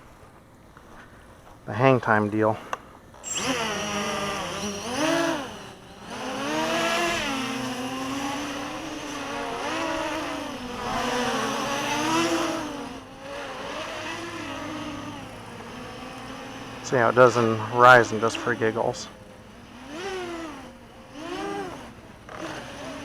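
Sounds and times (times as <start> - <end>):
quadcopter propellers buzzing: 2.1 - 23.0.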